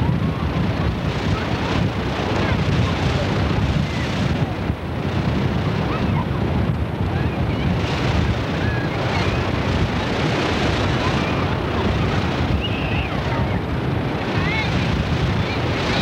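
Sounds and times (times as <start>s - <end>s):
faint distant voices: 0.0s - 16.0s
surf washing through shallows: 0.0s - 16.0s
wind rumbling on microphone: 0.0s - 16.0s.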